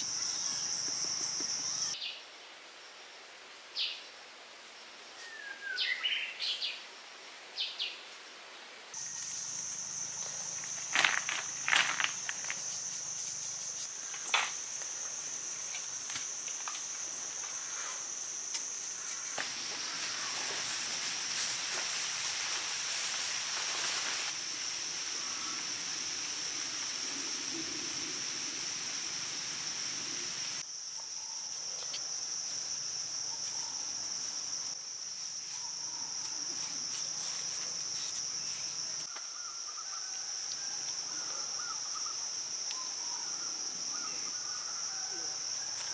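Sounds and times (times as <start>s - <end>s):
insects trilling: 0.0s - 2.1s, 9.0s - 45.9s.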